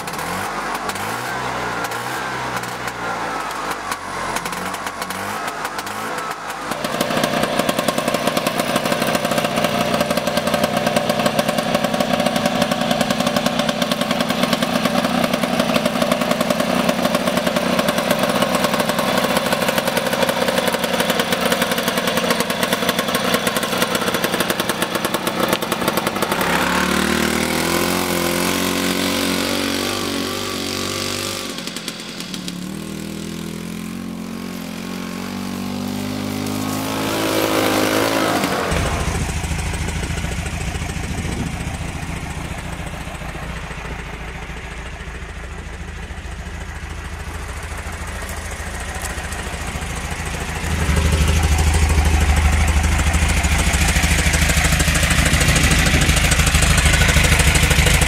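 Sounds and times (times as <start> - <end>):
buzzy two-stroke engine: 0.0 - 58.0.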